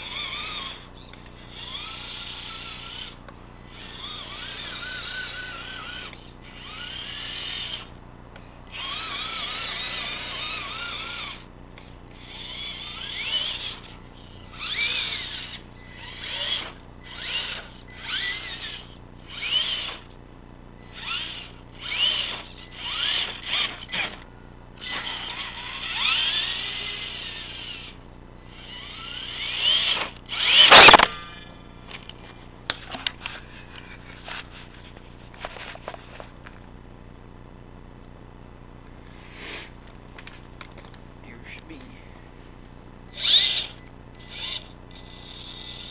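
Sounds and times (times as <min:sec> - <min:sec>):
electric motor whining: 0:00.0 - 0:08.0, 0:08.6 - 0:35.4, 0:43.1 - 0:45.9.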